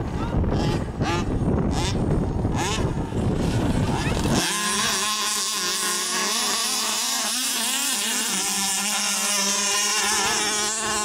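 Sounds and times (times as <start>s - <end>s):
two-stroke engines buzzing: 0.0s - 11.0s.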